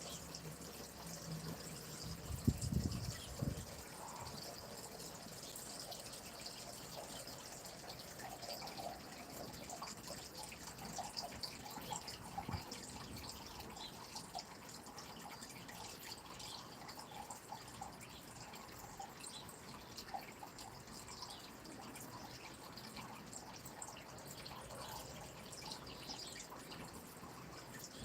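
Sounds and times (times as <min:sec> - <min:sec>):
stream trickling and babbling: 0:00.0 - 0:28.0.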